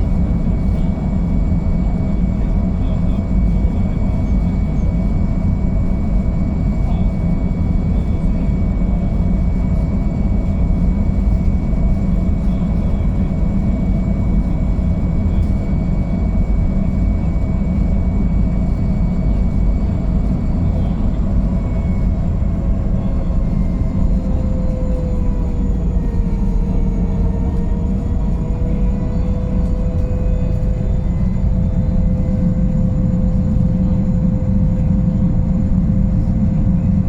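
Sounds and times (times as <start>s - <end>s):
heavy turbine drone: 0.0s - 37.0s.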